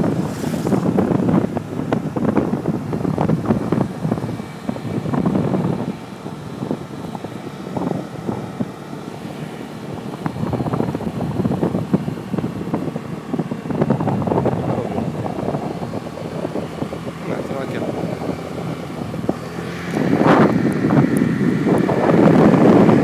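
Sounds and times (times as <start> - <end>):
motorbike engine running: 0.0 - 23.0
wind buffeting microphone: 0.0 - 23.0.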